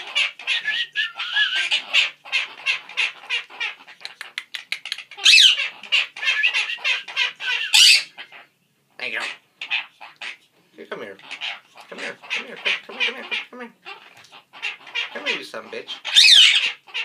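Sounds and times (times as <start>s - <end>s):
parrot squawk: 0.0s - 10.4s, 11.2s - 17.0s
parrots chattering: 0.0s - 17.0s.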